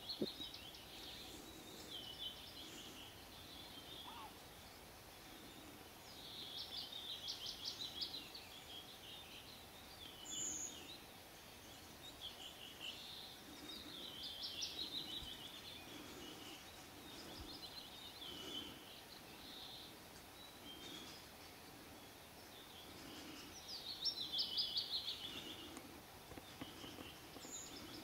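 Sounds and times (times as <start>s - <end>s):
faint outdoor hush: 0.0s - 28.0s
songbird singing: 0.0s - 28.0s.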